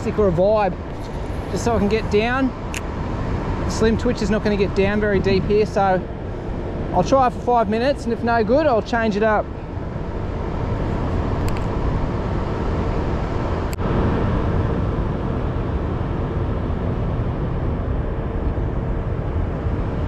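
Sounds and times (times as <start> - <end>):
low industrial drone: 0.0 - 20.0.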